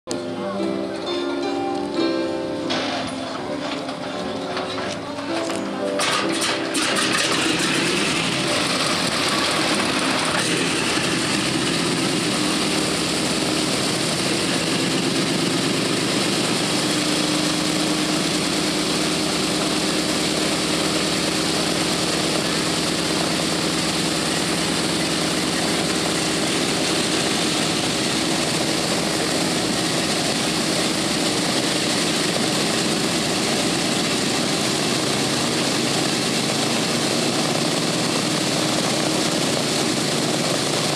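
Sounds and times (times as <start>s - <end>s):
radial engines idling: 2.6s - 40.9s.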